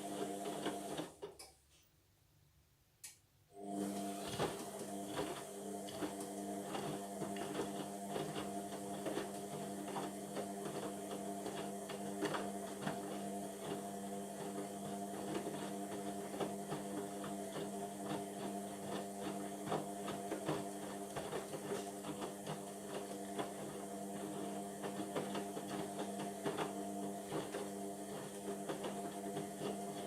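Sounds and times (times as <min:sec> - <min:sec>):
washing machine motor hum: 0:00.0 - 0:01.3, 0:03.5 - 0:30.0.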